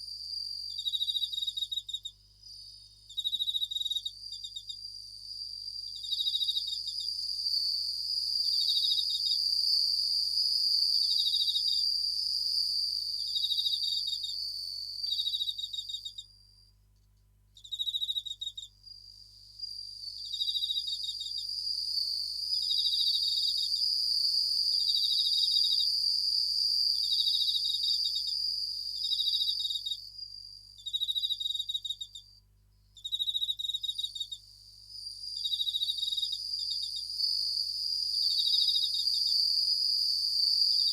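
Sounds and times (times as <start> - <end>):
crickets trilling: 0.0 - 16.7, 17.6 - 32.4, 33.0 - 40.9
pulsed cricket chirps: 0.0 - 16.9, 17.5 - 40.9.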